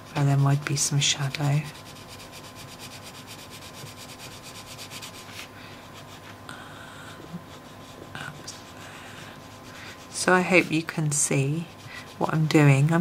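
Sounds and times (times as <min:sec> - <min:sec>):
coloured pencil shading on paper: 0:00.1 - 0:13.0.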